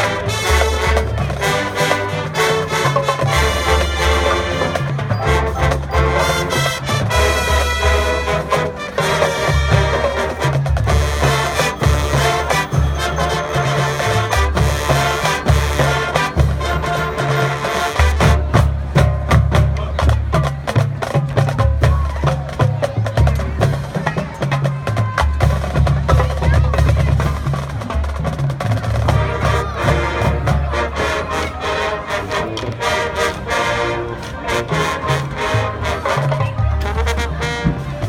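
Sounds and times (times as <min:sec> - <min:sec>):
drums and percussion hits: 0:00.0 - 0:30.9, 0:34.3 - 0:38.0
marching band brass: 0:00.0 - 0:38.0.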